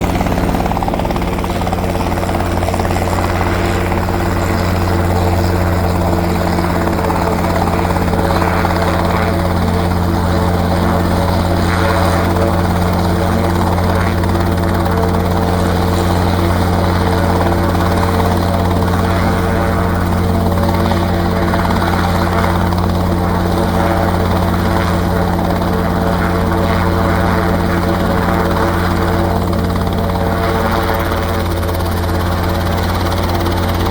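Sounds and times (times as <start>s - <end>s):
helicopter engine drone: 0.0s - 33.9s
helicopter rotor beat: 0.0s - 33.9s.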